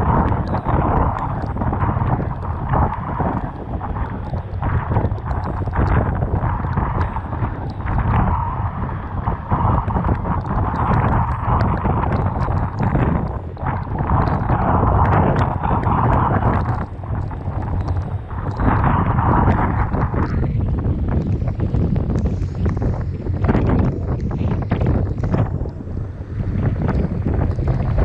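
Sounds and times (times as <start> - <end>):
rough sea washing: 0.0 - 28.0
wind buffeting microphone: 0.0 - 28.0
small sharp ticks: 0.1 - 8.6, 9.2 - 25.8.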